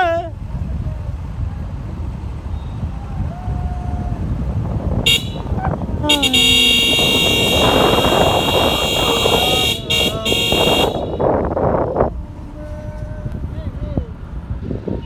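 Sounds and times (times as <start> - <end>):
voices: 0.0 - 4.5, 5.1 - 15.0
car driving on rough road: 0.0 - 15.0.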